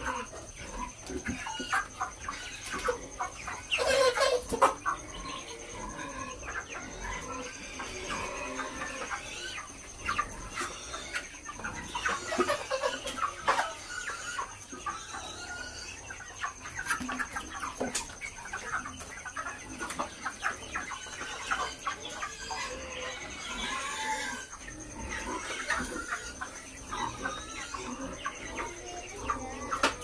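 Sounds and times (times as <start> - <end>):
chickens clucking and calling: 0.0 - 30.0.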